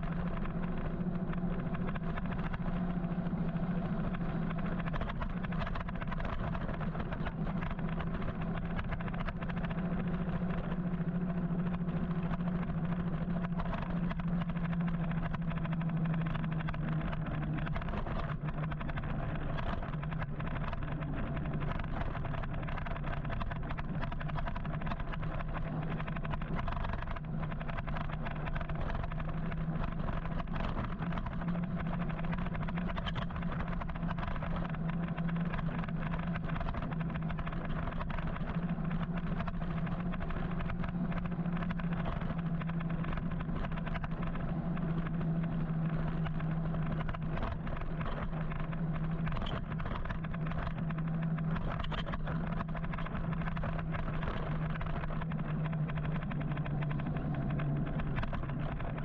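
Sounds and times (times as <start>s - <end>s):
constant low hum: 0.0s - 59.0s
road and wind noise: 0.0s - 59.0s.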